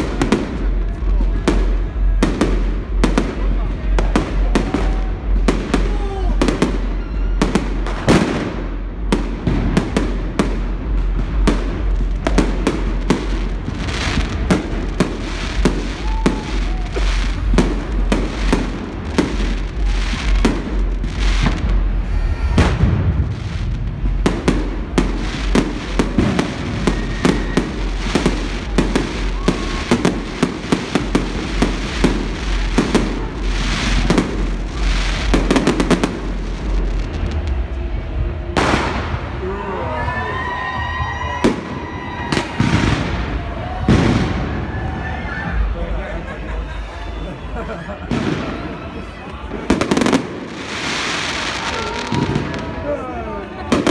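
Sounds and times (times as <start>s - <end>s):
fireworks bangs and crackling: 0.0s - 46.4s, 47.4s - 53.9s.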